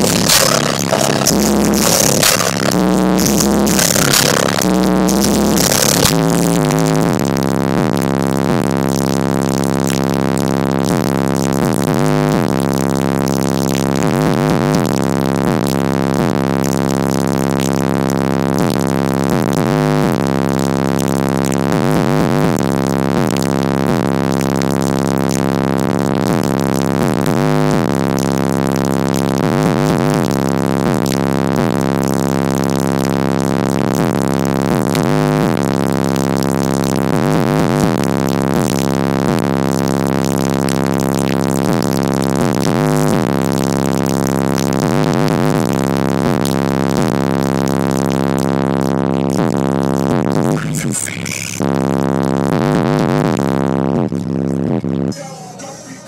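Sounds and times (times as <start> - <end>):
bass-heavy music through car speakers: 0.0 - 56.0.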